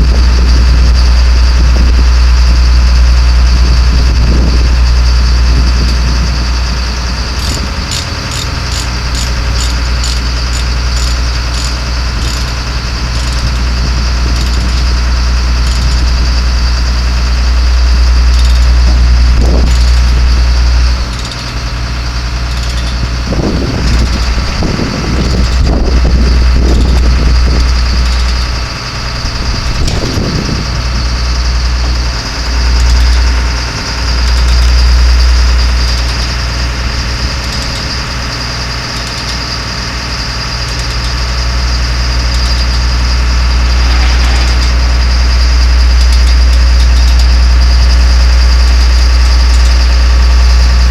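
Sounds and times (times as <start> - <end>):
diesel truck engine idling: 0.0 - 50.9
light evenly spaced ticks: 4.5 - 50.9.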